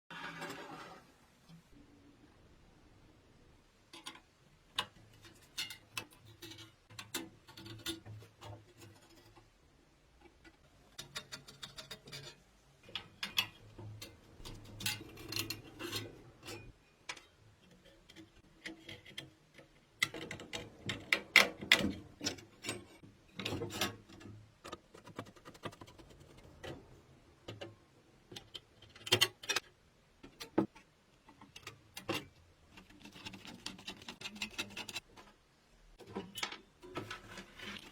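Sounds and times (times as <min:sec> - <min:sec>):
small metal parts and tools clicking: 0:03.8 - 0:35.4, 0:36.0 - 0:37.9.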